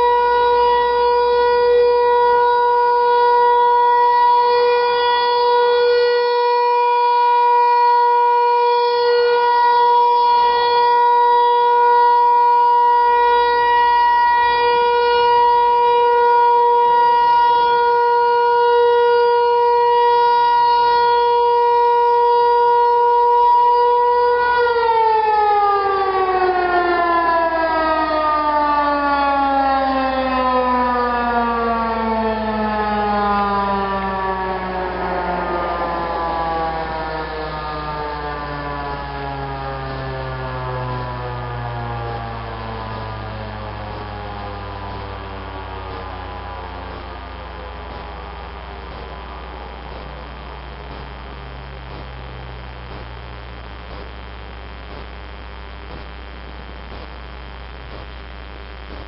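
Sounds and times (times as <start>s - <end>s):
electronic warning siren: 0.0s - 59.0s.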